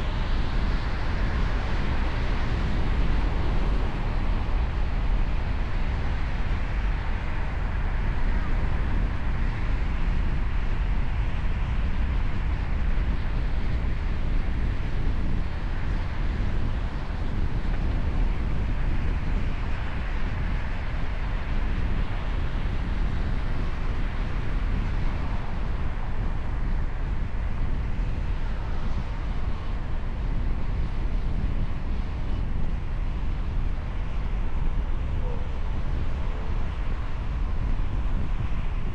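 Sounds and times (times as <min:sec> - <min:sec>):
road noise from moving vehicle: 0:00.0 - 0:38.9
wind noise: 0:00.0 - 0:38.9.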